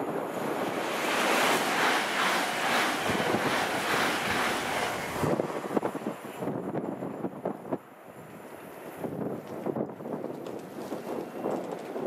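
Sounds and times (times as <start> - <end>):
train passing at speed: 0.0 - 12.0
wind buffeting microphone: 0.0 - 12.0.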